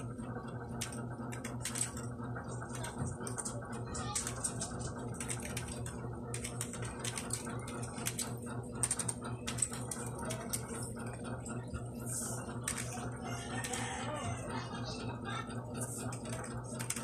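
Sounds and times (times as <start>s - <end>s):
rapid irregular clicking: 0.0s - 17.0s
steady low hum: 0.0s - 17.0s.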